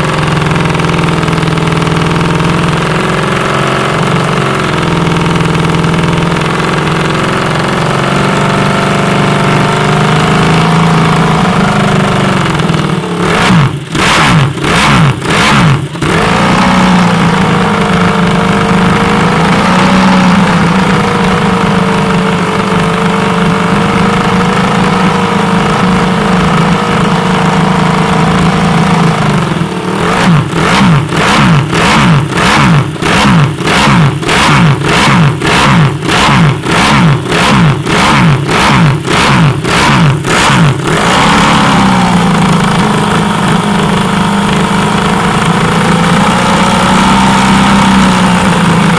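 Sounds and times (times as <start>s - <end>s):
engine throttle blips: 0.0s - 48.9s
motorcycle engine at high idle: 0.0s - 48.9s.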